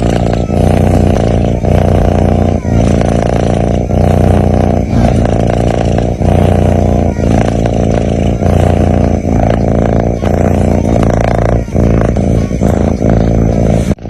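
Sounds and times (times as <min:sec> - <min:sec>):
kitten snoring: 0:00.0 - 0:14.0.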